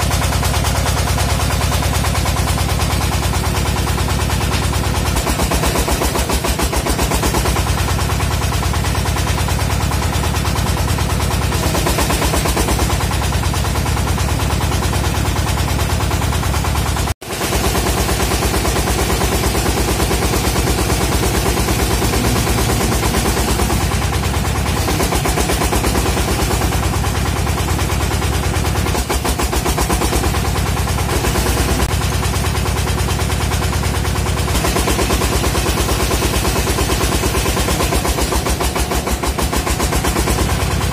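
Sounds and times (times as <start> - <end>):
drilling rig engine knocking: 0.0 - 40.9.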